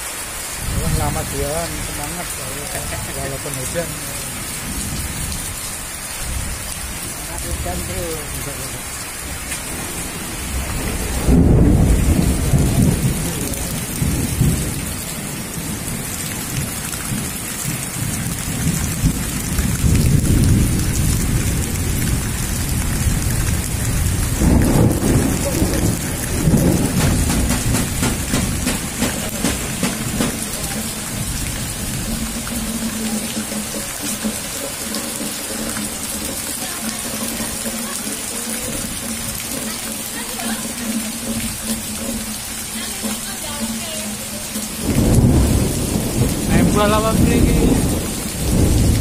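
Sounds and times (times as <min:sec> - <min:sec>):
heavy rain pouring: 0:00.0 - 0:49.0
deep low thunder rumbles: 0:00.6 - 0:05.6, 0:06.2 - 0:36.3, 0:41.2 - 0:49.0.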